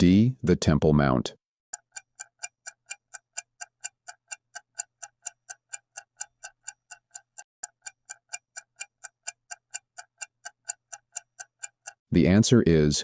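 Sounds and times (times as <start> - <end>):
clock ticking: 1.7 - 12.5.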